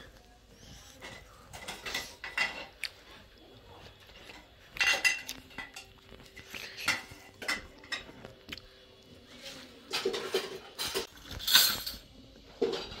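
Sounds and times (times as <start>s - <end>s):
dishes and utensils clinking: 0.7s - 8.4s, 9.4s - 13.0s.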